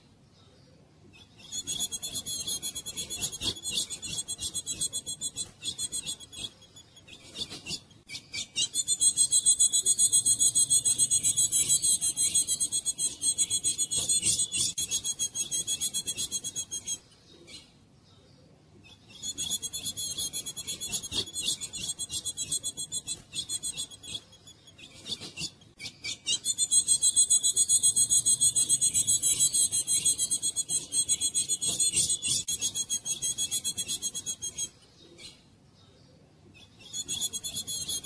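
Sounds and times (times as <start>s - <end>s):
bird high-pitched chatter: 1.2s - 17.1s, 18.9s - 35.4s, 36.6s - 38.0s.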